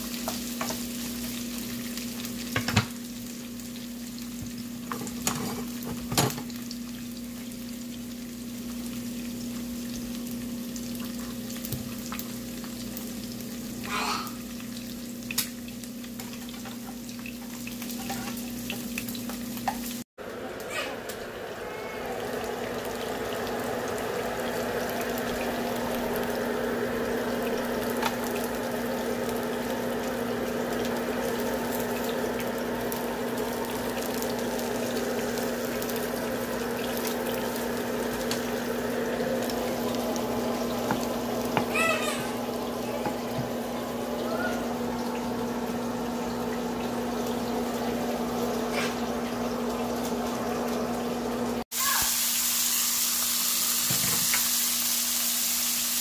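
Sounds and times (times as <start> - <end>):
eggs sizzling in a pan: 0.0 - 56.0.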